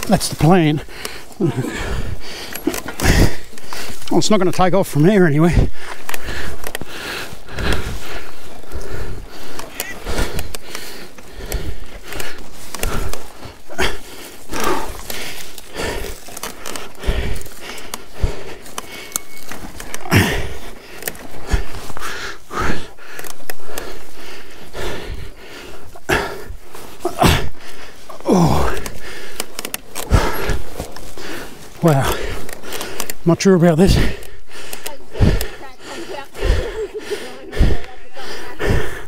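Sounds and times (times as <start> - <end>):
heavy breathing: 0.0 - 39.0.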